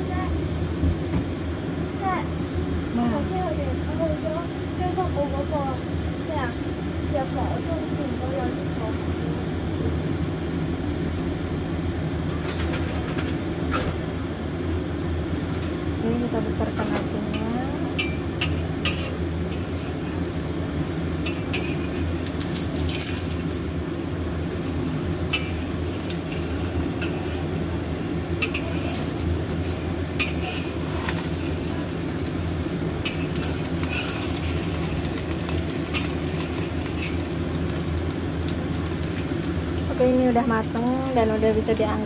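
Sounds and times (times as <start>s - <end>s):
food sizzling in a wok: 0.0s - 42.0s.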